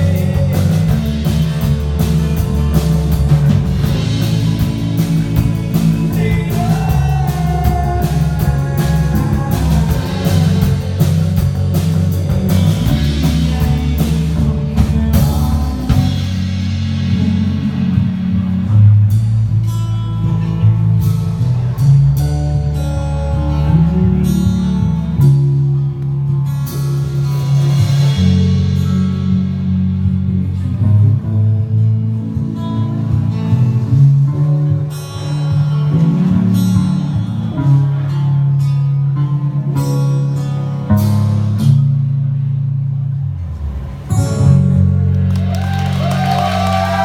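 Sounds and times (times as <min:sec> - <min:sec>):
live band guitar playing: 0:00.0 - 0:47.0
steady bass line: 0:00.0 - 0:47.0.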